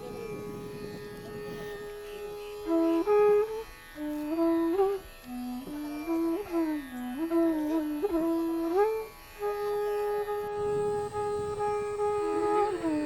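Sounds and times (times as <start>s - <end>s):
sitar-like string melody: 0.0s - 13.0s.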